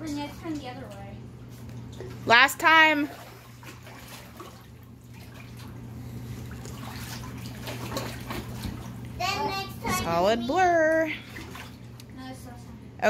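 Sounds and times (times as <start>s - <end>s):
steady low hum: 0.0s - 13.0s
water sloshing in a hot tub: 0.0s - 13.0s.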